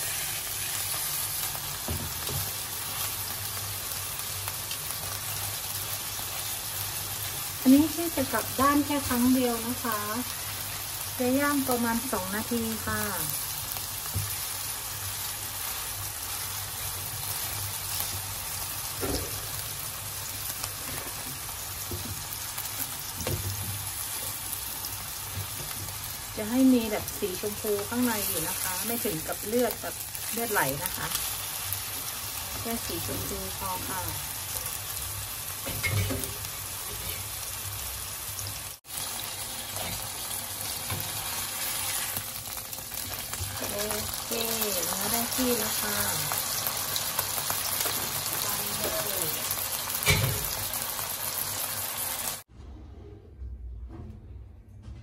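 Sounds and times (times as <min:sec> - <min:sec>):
steak sizzling in a frying pan: 0:00.0 - 0:52.5.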